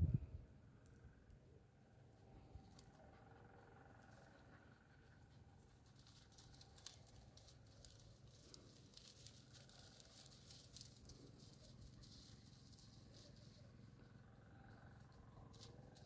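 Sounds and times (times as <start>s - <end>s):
faint crackling rustles: 2.2s - 16.0s.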